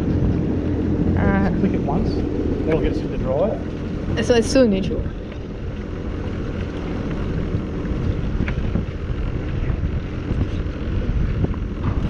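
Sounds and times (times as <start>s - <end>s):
jet ski engine idling: 0.0s - 12.0s.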